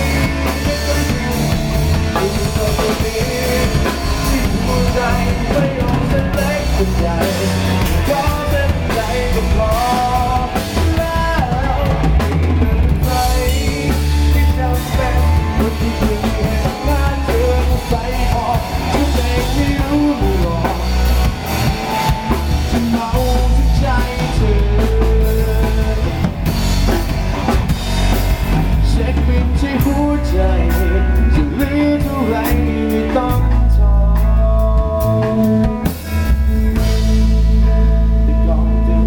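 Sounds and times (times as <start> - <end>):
drum kit beat: 0.0 - 38.2
bass and melodic instruments: 0.0 - 39.0.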